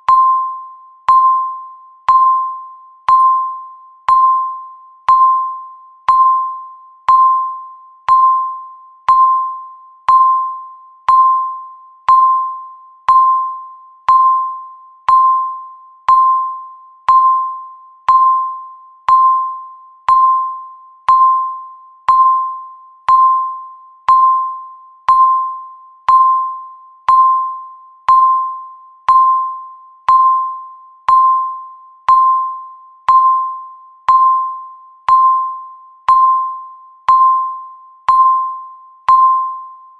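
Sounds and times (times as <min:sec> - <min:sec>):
countdown timer beeps: 0:00.0 - 0:39.9.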